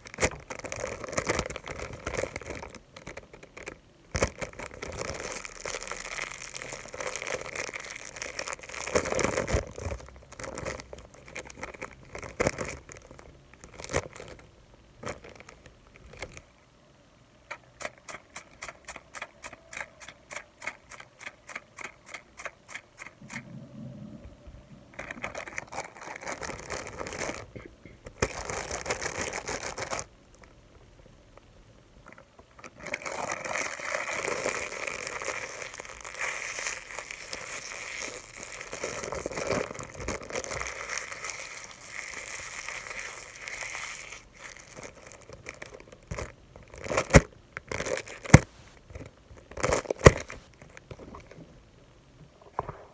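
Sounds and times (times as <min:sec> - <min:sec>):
rustling and crinkling: 0:00.0 - 0:16.6, 0:17.5 - 0:52.9.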